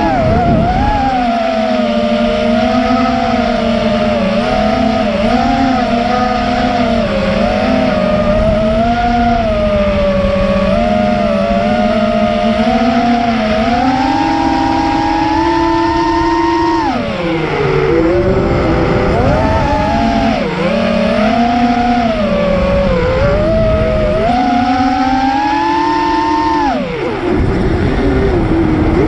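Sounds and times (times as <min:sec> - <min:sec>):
drone motors buzzing: 0:00.0 - 0:29.0.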